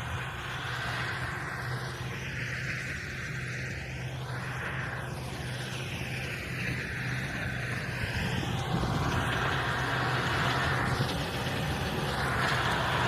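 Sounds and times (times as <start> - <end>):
tractor engine under load: 0.0 - 13.0.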